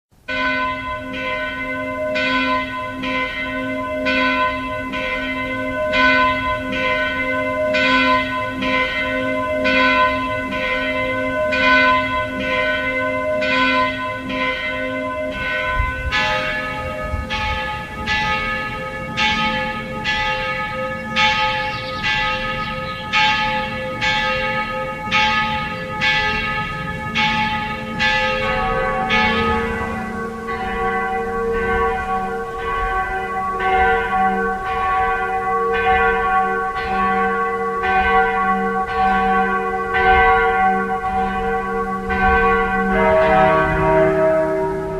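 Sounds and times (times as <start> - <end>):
bells ringing: 0.3 - 44.9.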